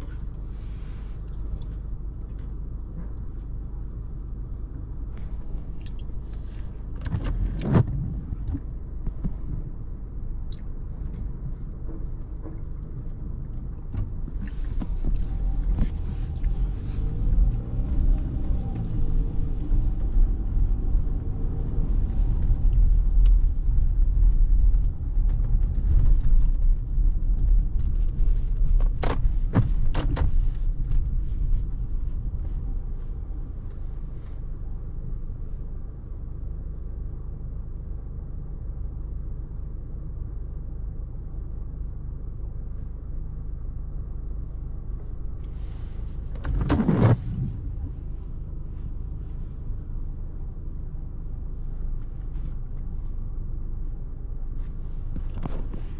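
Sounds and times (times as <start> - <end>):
engine and tyre rumble: 0.0 - 55.9.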